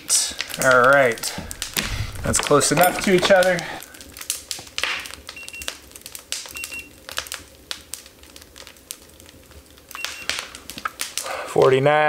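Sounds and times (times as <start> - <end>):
light clicks and crackles: 0.4 - 11.3.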